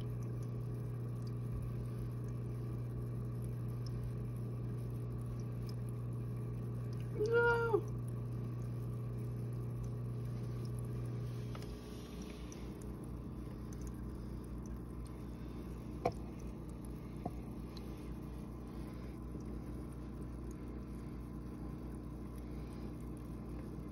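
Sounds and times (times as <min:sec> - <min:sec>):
aquarium equipment humming: 0:00.0 - 0:23.9.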